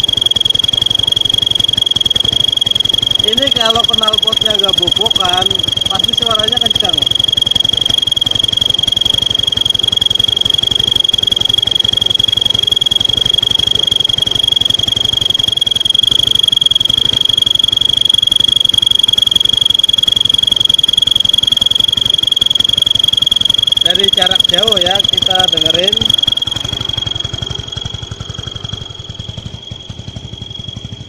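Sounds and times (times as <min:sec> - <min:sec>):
scooter engine low pulse: 0:00.0 - 0:31.0.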